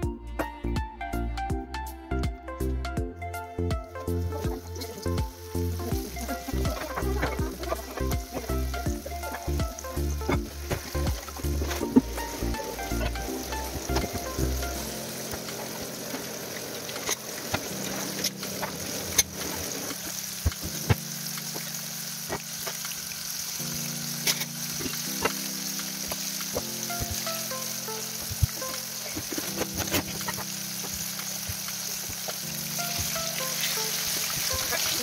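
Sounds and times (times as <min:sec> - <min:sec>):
fish frying in oil: 0:04.0 - 0:35.0
oil popping and crackling: 0:04.2 - 0:35.0.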